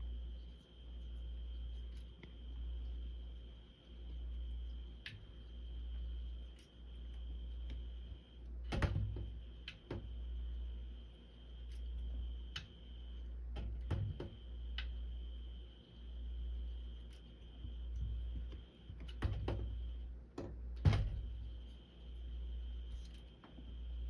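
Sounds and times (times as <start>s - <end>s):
faint high whine: 0.0s - 20.2s, 20.8s - 24.0s.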